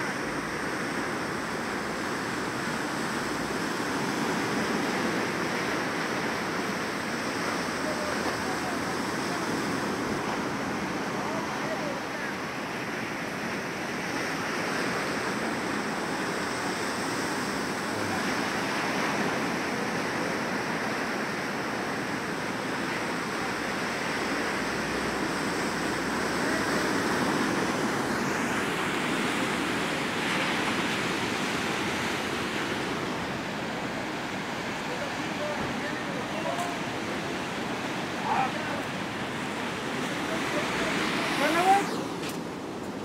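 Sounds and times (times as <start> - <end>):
surf breaking on a beach: 0.0 - 43.0.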